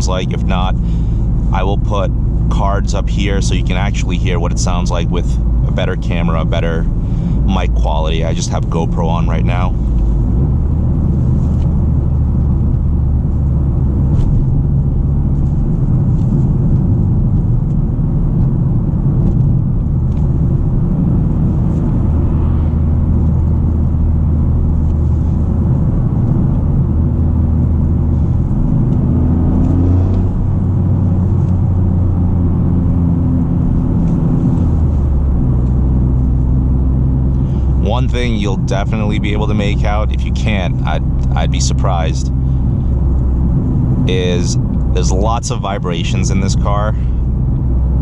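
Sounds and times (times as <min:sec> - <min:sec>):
car engine drone from cabin: 0:00.0 - 0:48.0
road noise: 0:00.0 - 0:48.0.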